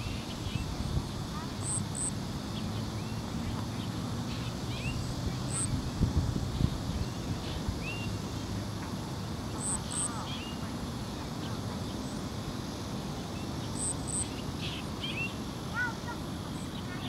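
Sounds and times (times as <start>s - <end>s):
songbirds chirping: 0.0s - 17.0s
steady low hum: 0.0s - 17.0s.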